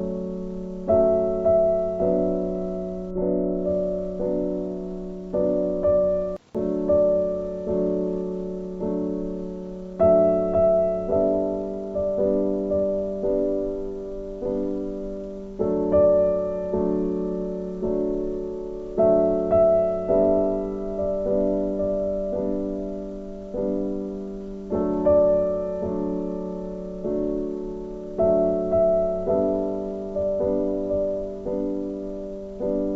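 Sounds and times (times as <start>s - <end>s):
slow gentle piano chords: 0.0s - 32.9s.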